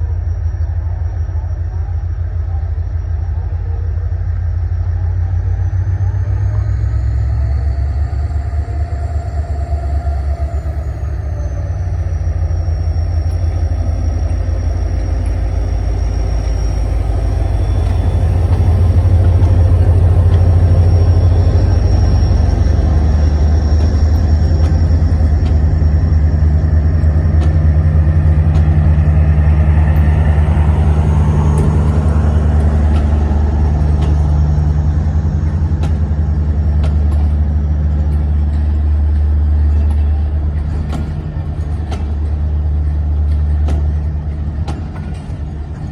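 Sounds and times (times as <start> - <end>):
diesel locomotive engine rumbling: 0.0 - 45.9.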